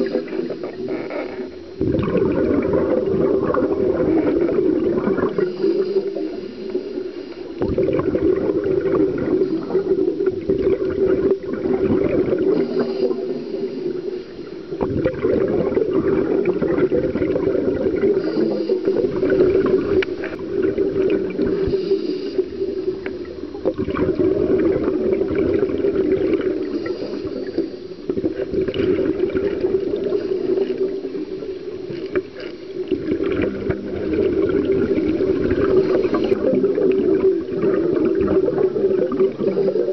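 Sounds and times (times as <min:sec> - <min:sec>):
bubbles gurgling: 0:00.0 - 0:39.9
diver's regulator breathing underwater: 0:00.0 - 0:39.9.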